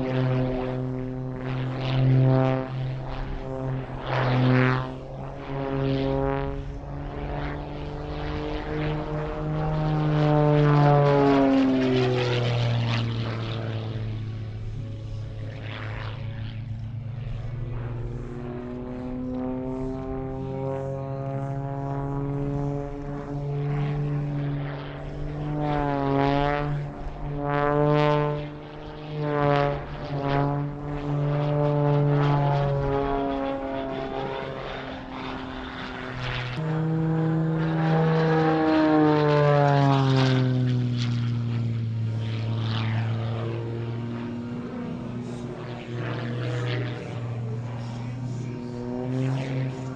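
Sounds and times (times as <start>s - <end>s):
propeller plane engine: 0.0s - 49.9s.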